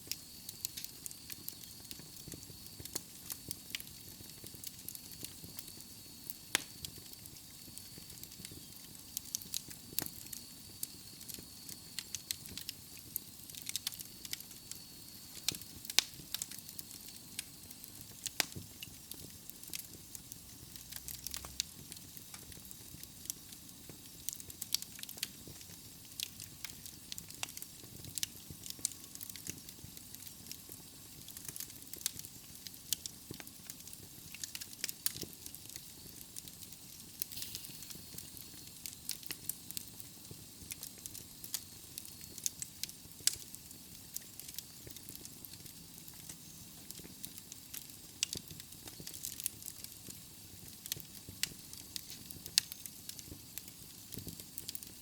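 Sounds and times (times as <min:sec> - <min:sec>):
fire soft hiss: 0:00.0 - 0:55.0
logs crackling and popping: 0:00.1 - 0:55.0.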